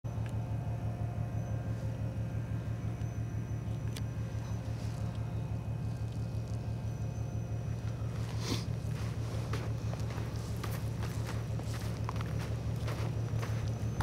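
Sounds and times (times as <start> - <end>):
low engine throb: 0.1 - 14.0.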